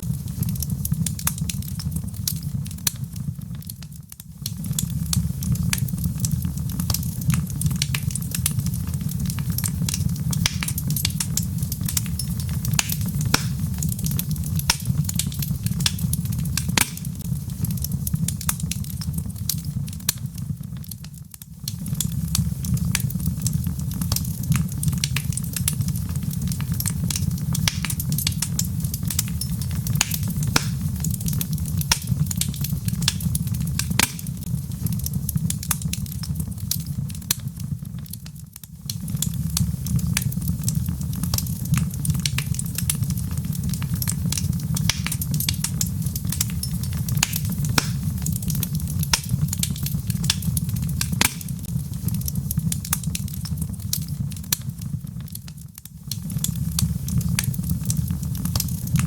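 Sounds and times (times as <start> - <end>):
fire crackles and pops: 0.0 - 59.0
low rumble of flame: 0.0 - 59.0.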